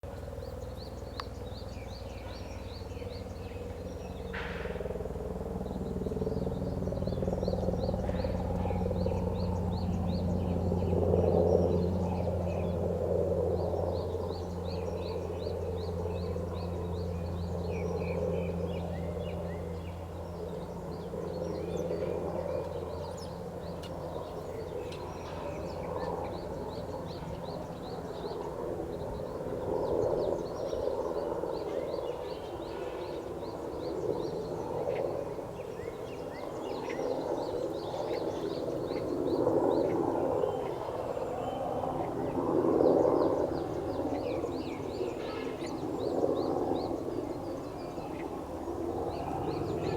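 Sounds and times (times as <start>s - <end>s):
outdoor background noise: 0.0s - 49.9s.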